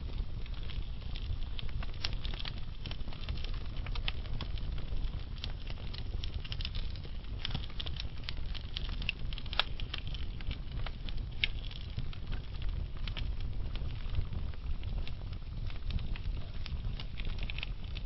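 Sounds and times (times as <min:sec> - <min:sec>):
logs crackling and popping: 0:00.0 - 0:18.0
low rumble of flames: 0:00.0 - 0:18.0.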